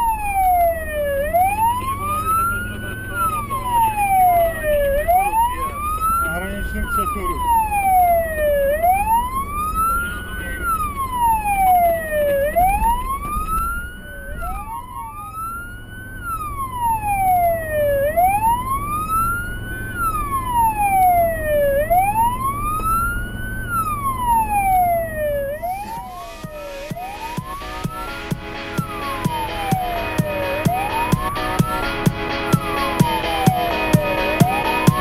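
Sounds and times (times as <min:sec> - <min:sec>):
fire engine siren wailing: 0:00.0 - 0:35.0.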